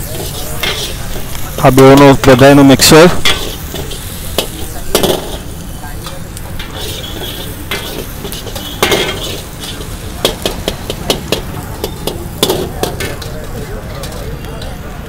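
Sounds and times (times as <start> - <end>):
metal ladle scraping wok: 0.0 - 13.5
vegetables sizzling in oil: 0.0 - 13.6.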